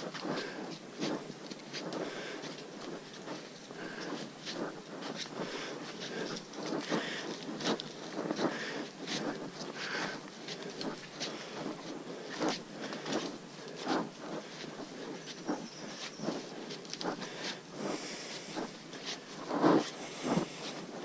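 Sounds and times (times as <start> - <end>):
footsteps on muddy leafy trail: 0.0 - 21.0.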